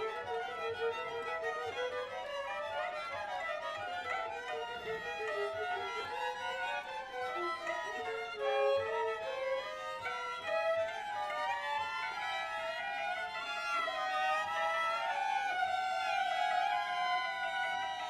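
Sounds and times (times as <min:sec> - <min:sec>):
bowed violin: 0:00.0 - 0:18.0.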